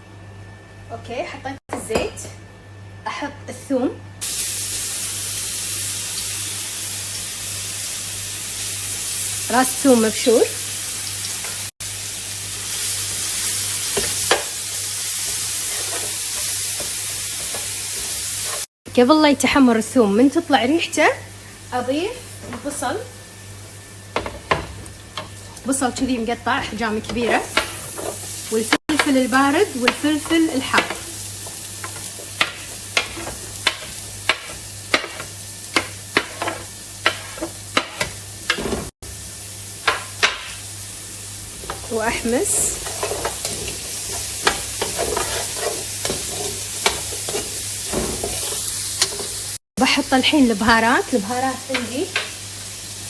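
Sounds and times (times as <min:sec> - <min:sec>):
garlic sizzling in hot oil: 0:04.2 - 0:18.7, 0:19.6 - 0:53.0.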